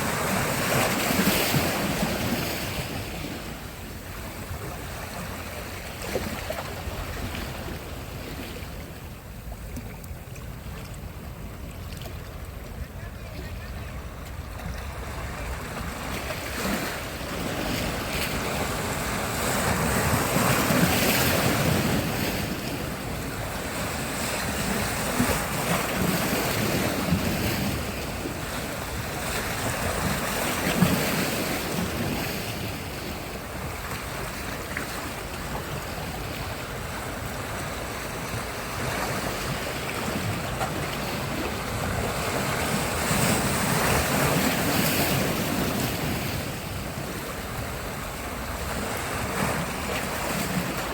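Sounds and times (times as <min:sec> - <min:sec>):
waves breaking on shore: 0:00.0 - 0:50.9.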